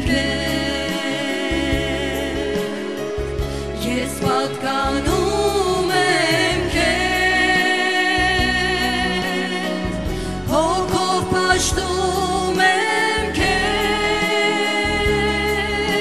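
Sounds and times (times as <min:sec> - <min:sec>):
sustained low backing notes: 0:00.0 - 0:16.0
women singing a hymn: 0:00.0 - 0:16.0.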